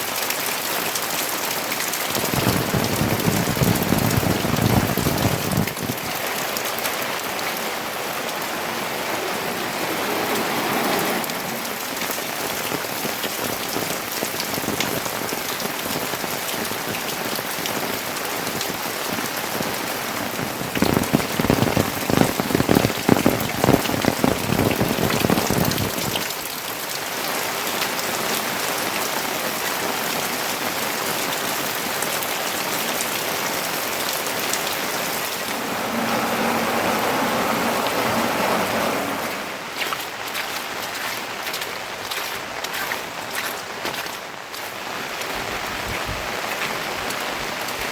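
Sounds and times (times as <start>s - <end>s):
heavy raindrops pattering: 0.0s - 47.9s
steady rain falling: 0.0s - 47.9s.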